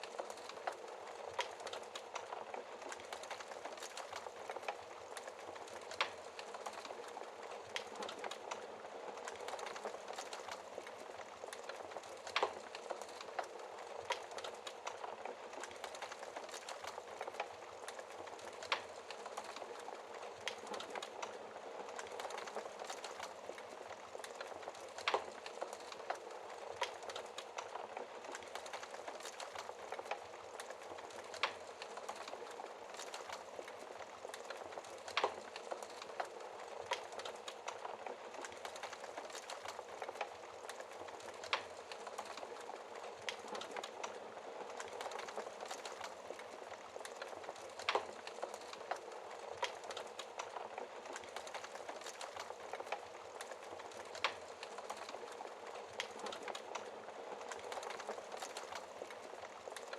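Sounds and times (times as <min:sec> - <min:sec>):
fire popping: 0:00.0 - 0:59.9
wood fire crackling: 0:00.0 - 0:59.9.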